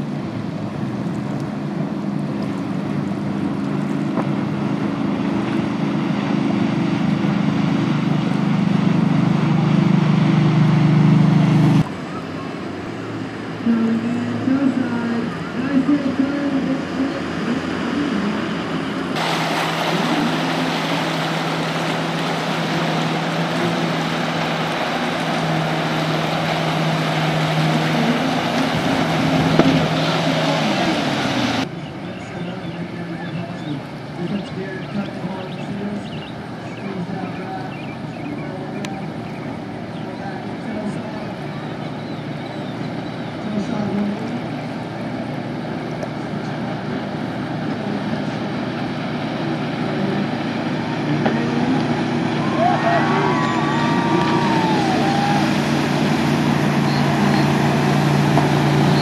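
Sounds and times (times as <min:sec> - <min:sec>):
motorboat engine running: 0:00.0 - 0:59.0
rush of water and wind: 0:00.0 - 0:59.0.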